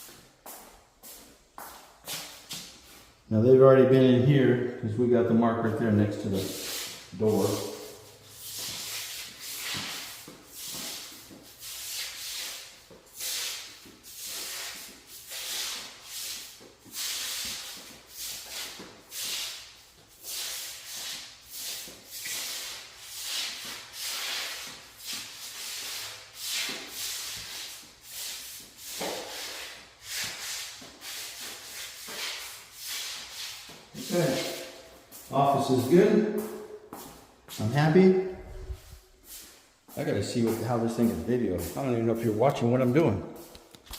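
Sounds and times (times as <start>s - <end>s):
shoe soles scraping on tile floor: 0.0s - 3.2s, 5.6s - 43.9s.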